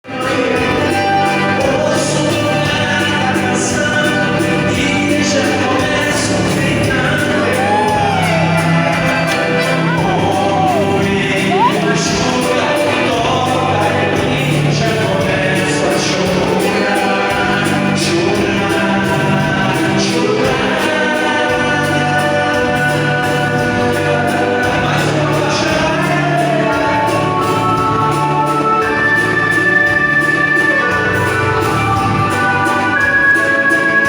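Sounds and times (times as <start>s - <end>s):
live waltz music with singing: 0.0s - 34.0s.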